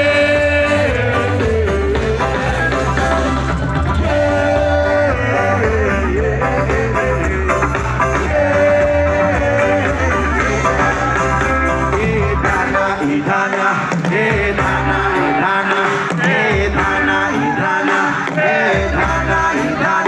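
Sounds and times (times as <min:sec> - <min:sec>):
bass beat: 0:00.0 - 0:20.0
live rock band: 0:00.0 - 0:20.0
singer holding long notes: 0:00.0 - 0:20.0.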